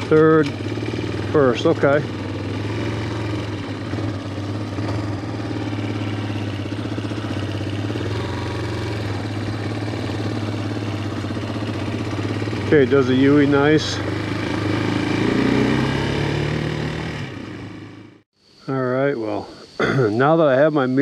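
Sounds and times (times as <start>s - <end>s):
motorcycle engine running at low revs: 0.0s - 18.2s.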